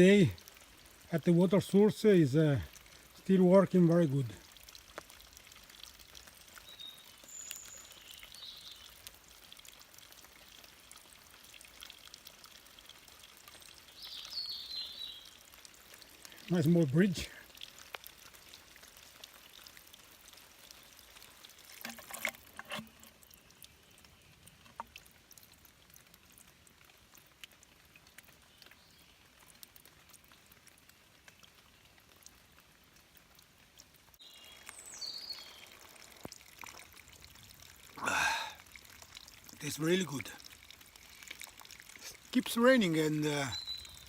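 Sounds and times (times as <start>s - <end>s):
water trickling from spring: 0.0s - 44.0s.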